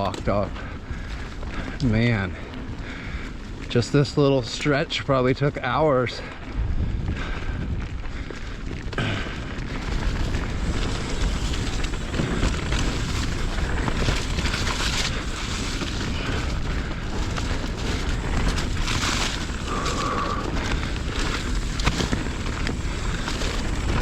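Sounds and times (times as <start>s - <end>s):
bike rattling: 0.0s - 24.0s
bike tyres rumbling on dirt: 0.0s - 24.0s
wind buffeting microphone: 0.0s - 24.0s.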